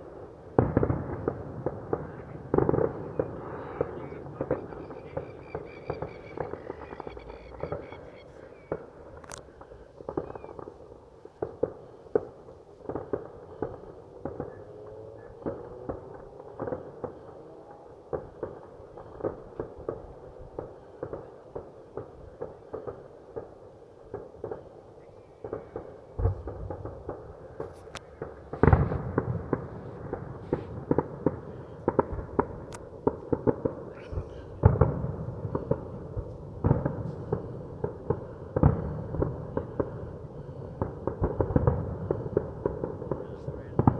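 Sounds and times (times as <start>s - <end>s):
deep firework bangs: 0.0s - 43.9s
fireworks popping and crackling: 0.0s - 43.9s.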